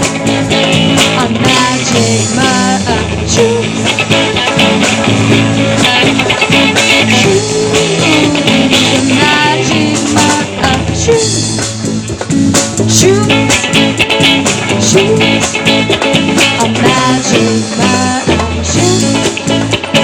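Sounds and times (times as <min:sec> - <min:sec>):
drums steady beat: 0:00.0 - 0:20.0
live band playing: 0:00.0 - 0:20.0.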